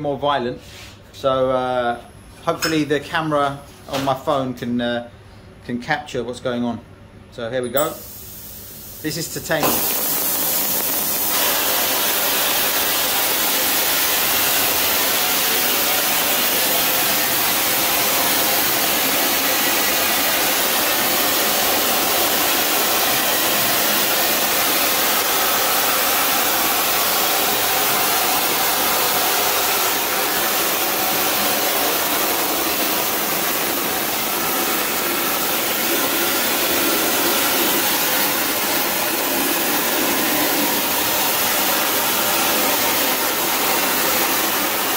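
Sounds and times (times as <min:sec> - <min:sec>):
flame spray gun hissing: 0:07.9 - 0:44.9.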